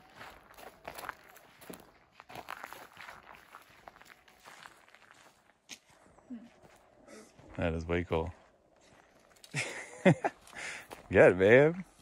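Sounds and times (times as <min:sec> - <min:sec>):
footsteps on dry grass: 0:00.0 - 0:12.0.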